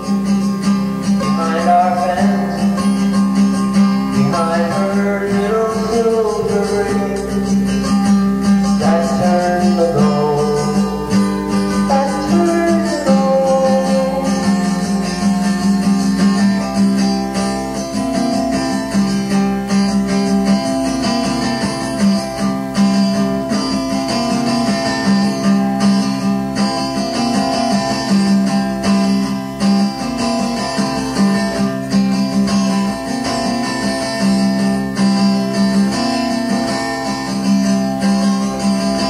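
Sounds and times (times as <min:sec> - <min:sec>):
strummed and plucked guitar: 0:00.0 - 0:39.0.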